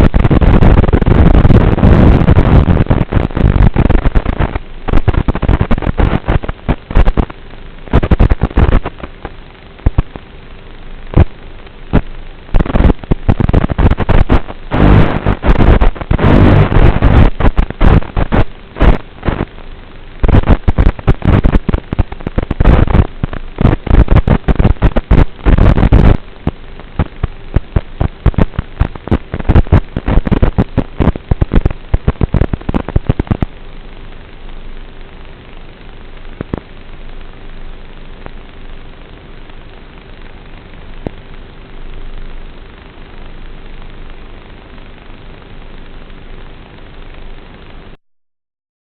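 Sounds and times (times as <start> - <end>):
distorted crackle and knocks: 0.0 - 48.0
steady hiss: 0.0 - 48.0.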